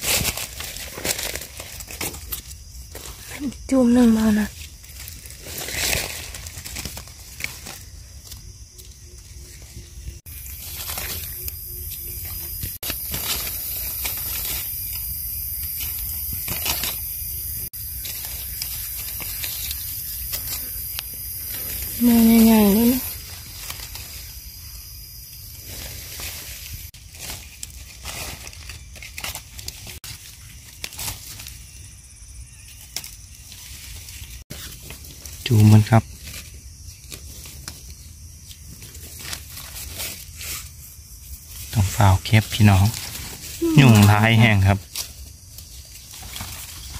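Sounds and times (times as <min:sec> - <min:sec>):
dry leaves rustling and crackling: 0:00.0 - 0:46.9.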